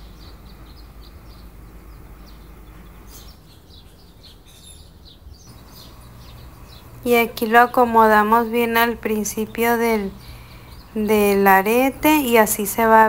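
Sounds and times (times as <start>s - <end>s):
low steady hum: 0.0s - 13.0s
small birds chirping: 0.0s - 13.0s.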